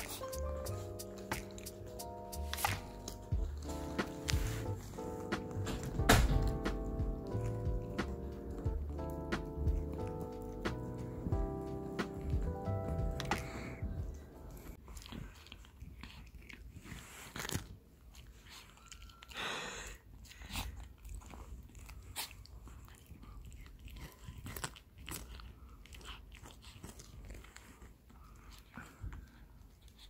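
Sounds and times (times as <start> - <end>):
dog crunching a carrot: 0.0 - 13.8, 14.5 - 30.0.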